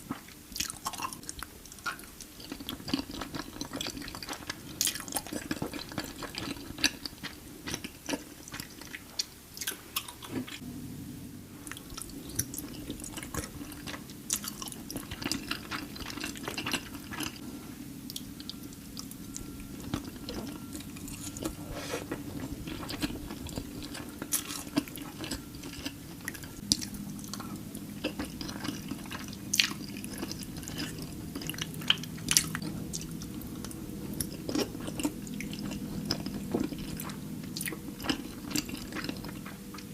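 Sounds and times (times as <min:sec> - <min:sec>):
person chewing pasta: 0:00.1 - 0:10.6, 0:11.6 - 0:17.4, 0:18.1 - 0:39.9.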